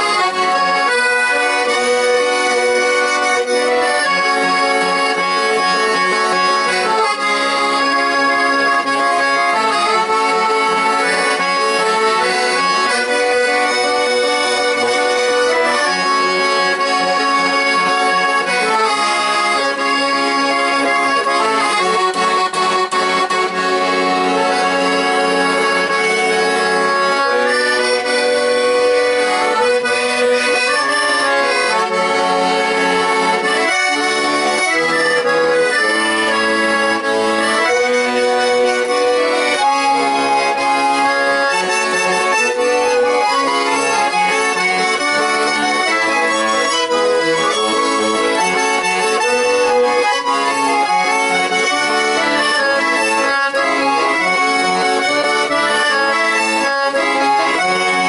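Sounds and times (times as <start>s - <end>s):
button accordion melody: 0.0s - 58.0s.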